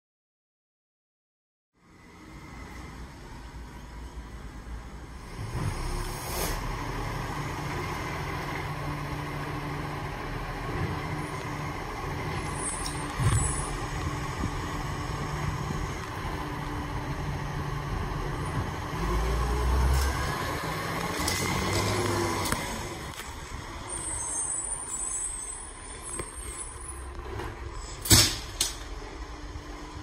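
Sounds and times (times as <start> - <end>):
garbage truck diesel engine: 1.8 - 30.0.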